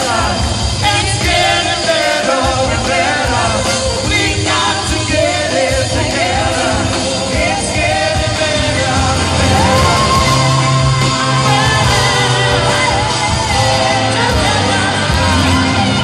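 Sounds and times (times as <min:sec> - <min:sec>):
backing singers: 0:00.0 - 0:16.0
lead voice singing: 0:00.0 - 0:16.0
live rock band playing: 0:00.0 - 0:16.0.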